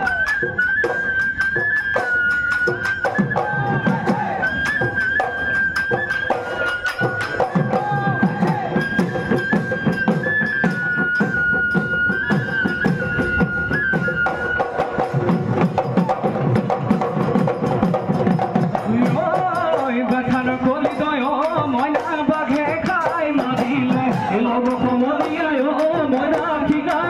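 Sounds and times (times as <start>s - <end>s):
high wind instrument melody: 0.0s - 26.2s
dhol drumming: 0.0s - 27.0s
percussion strikes: 0.0s - 27.0s.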